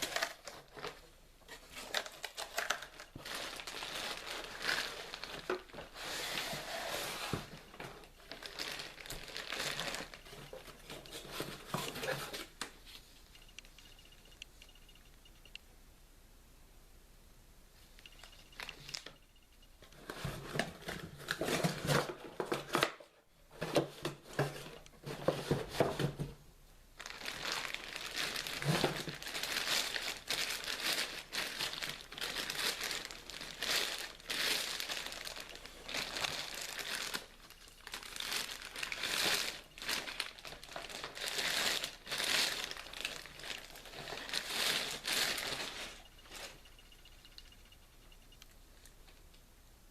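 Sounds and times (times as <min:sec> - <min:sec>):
crinkling and crumpling: 0:00.0 - 0:14.4, 0:18.0 - 0:19.2, 0:19.8 - 0:26.4, 0:27.0 - 0:49.4.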